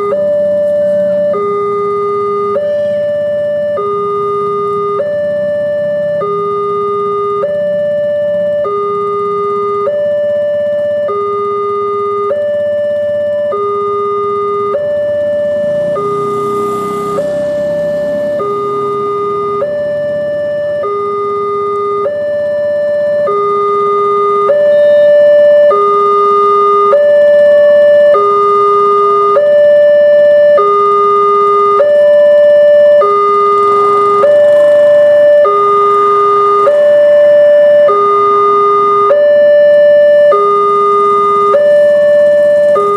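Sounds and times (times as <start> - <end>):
level-crossing two-tone alarm: 0.0 - 42.9.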